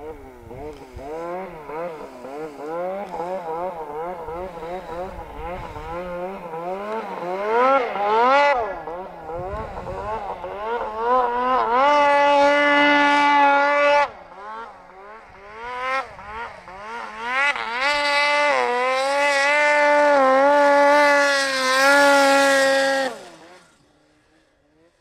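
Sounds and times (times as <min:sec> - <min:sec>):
snowmobile engine revving: 0:00.0 - 0:25.0.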